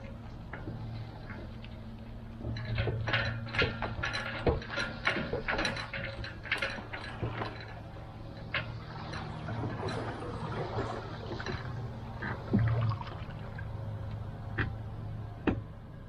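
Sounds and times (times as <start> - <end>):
boat trailer rattling and clanking: 0.0 - 16.0.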